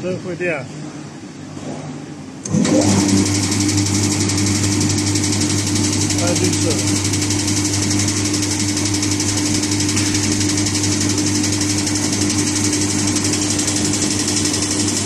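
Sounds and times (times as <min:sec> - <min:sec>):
electric motor hum and whir: 0:00.0 - 0:15.0.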